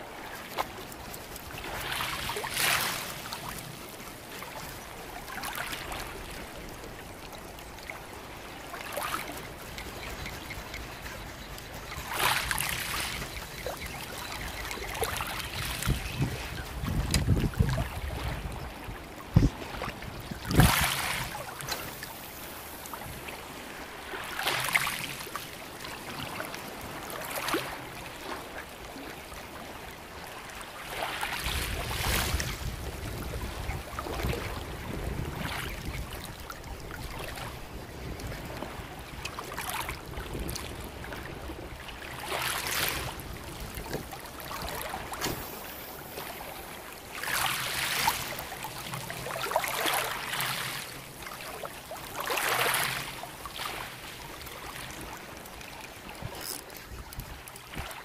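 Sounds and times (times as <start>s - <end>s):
sea water lapping and splashing: 0.0s - 58.0s.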